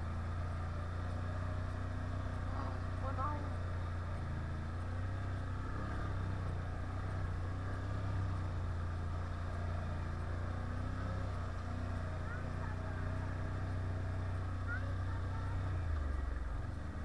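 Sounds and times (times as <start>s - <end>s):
quad engine running steadily: 0.0s - 17.0s.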